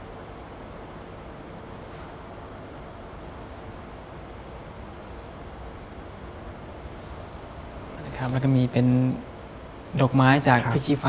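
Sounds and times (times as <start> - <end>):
background hiss: 0.0 - 11.0
high-pitched whine: 0.0 - 11.0.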